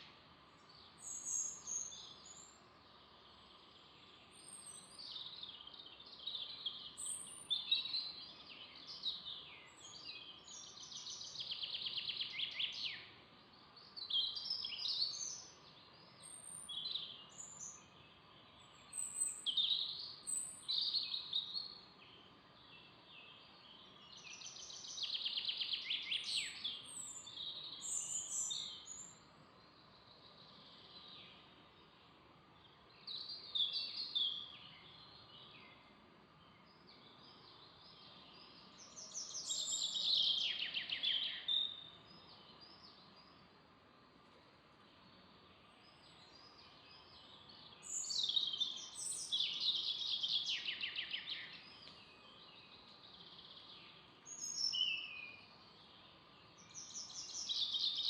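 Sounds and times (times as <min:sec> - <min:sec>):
faint background hiss: 0:00.0 - 0:58.0
songbirds trilling: 0:00.6 - 0:43.6, 0:44.8 - 0:58.0.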